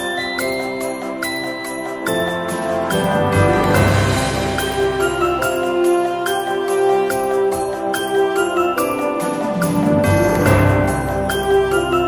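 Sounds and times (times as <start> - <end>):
christmas music: 0.0 - 12.0
jingle bells shaking: 0.0 - 12.0.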